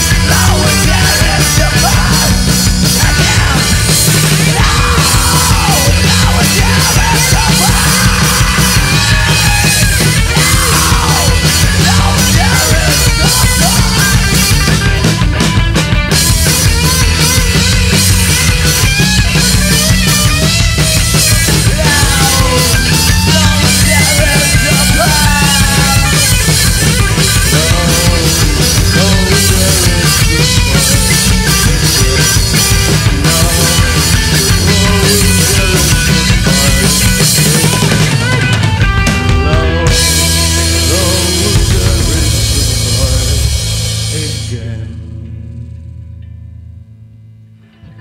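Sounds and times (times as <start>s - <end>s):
pounding drums and cymbals: 0.0s - 44.9s
live rock band: 0.0s - 48.0s.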